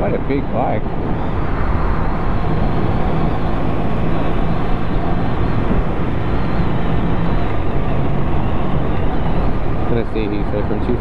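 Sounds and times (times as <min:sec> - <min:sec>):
motorcycle engine cruising: 0:00.0 - 0:11.0
wind rush over microphone: 0:00.0 - 0:11.0.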